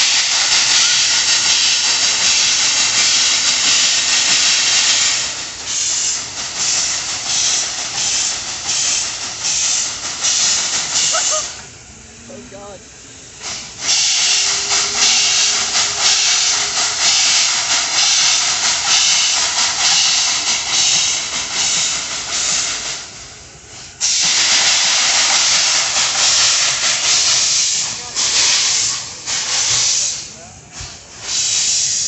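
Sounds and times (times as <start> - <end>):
steam locomotive venting steam: 0.0 - 32.0.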